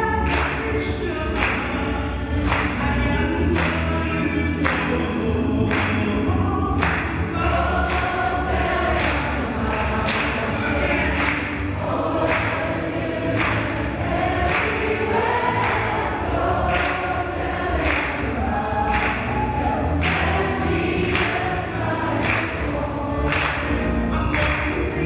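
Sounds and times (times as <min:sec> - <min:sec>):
women singing gospel in harmony: 0:00.0 - 0:24.2.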